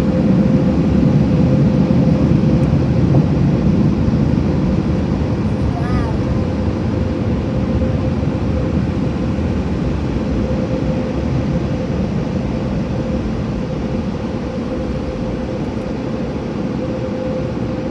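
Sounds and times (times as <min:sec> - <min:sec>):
constant hum-like tone: 0:00.0 - 0:17.9.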